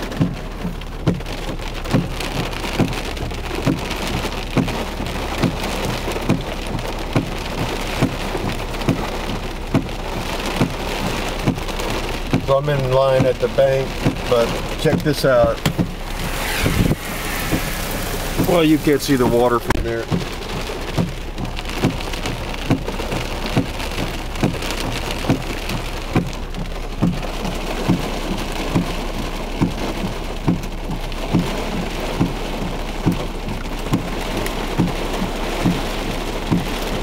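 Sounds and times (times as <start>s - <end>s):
heavy rain drumming on a car: 0.0s - 37.0s.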